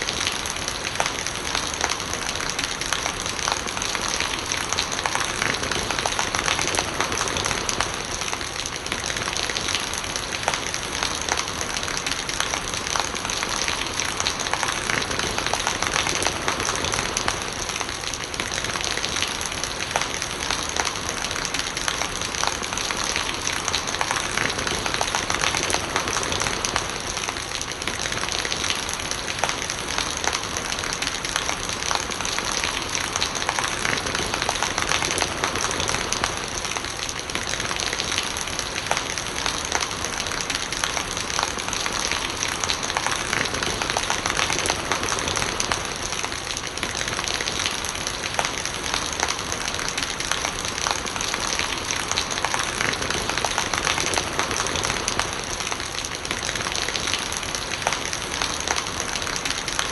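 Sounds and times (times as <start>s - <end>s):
raindrop splashes: 0.0s - 59.9s
steady rain falling: 0.0s - 59.9s.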